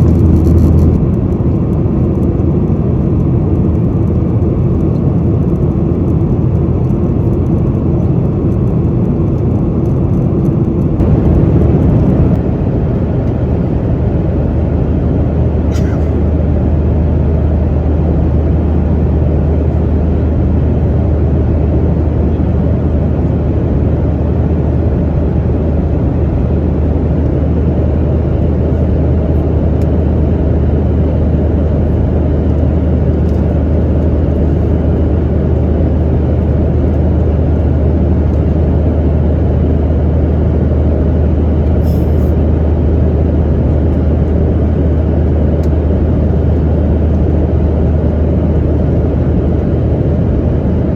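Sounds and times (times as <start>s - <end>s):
jet engines droning in cabin: 0.0s - 50.9s.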